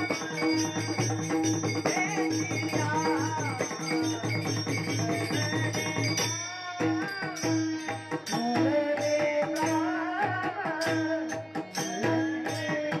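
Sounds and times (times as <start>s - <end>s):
barrel drum beat: 0.0s - 13.0s
boys singing: 0.0s - 13.0s
hand cymbals striking: 0.0s - 13.0s.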